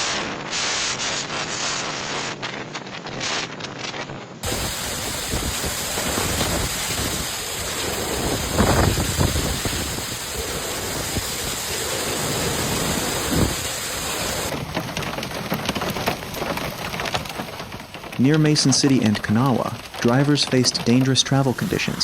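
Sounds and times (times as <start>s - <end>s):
heavy rain and hail: 0.0s - 3.8s, 4.4s - 22.0s
wind: 0.0s - 22.0s.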